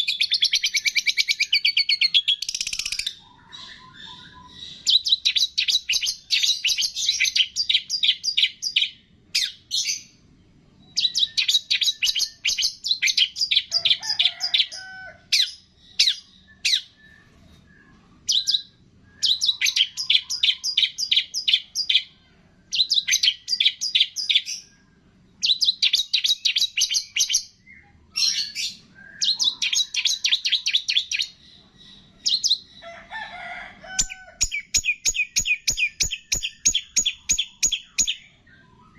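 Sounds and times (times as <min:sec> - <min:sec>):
sharp bird calls: 0:00.0 - 0:38.9
songbird chirping: 0:00.0 - 0:38.9.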